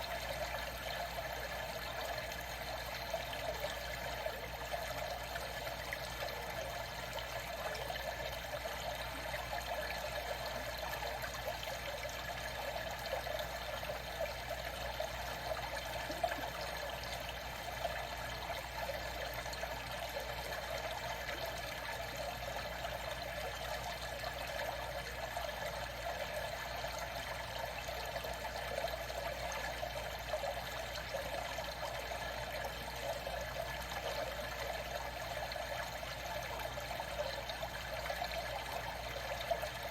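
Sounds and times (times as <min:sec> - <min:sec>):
moving water: 0:00.0 - 0:39.9.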